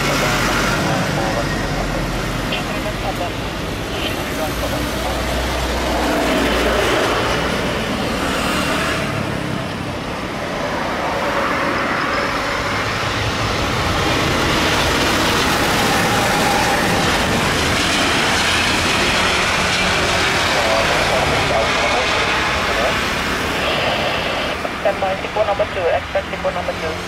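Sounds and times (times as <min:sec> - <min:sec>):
jet engines roaring on landing: 0:00.0 - 0:27.0.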